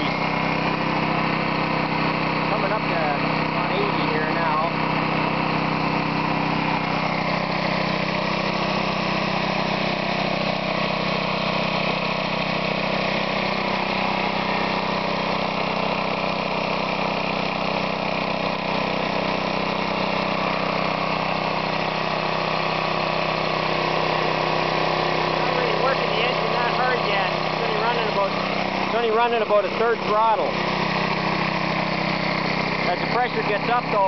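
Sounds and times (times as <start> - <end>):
air compressor pumping: 0.0 - 34.0
lawnmower engine running: 0.0 - 34.0.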